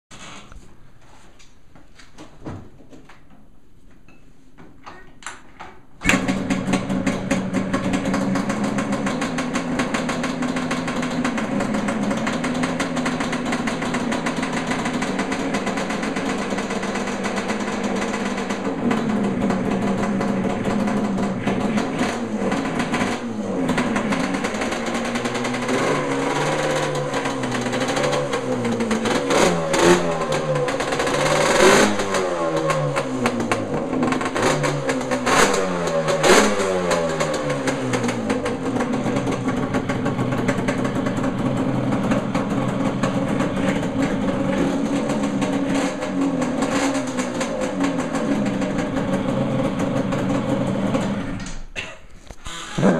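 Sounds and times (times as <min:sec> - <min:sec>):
two-stroke motorcycle engine: 0:06.0 - 0:52.9.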